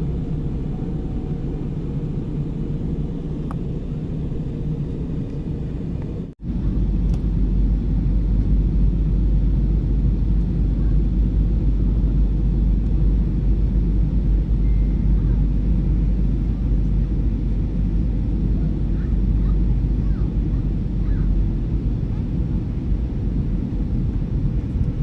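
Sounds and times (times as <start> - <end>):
airliner engine and airflow rumble: 0.0 - 25.0.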